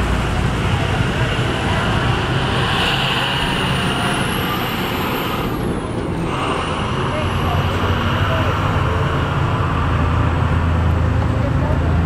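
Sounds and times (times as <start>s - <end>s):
road traffic noise: 0.0s - 12.0s
vehicle engines rumbling: 0.0s - 12.0s.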